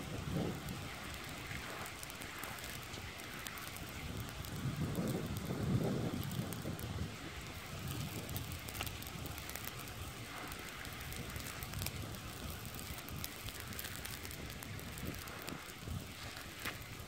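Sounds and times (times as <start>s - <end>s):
flames burning with crackles: 0.0s - 17.0s.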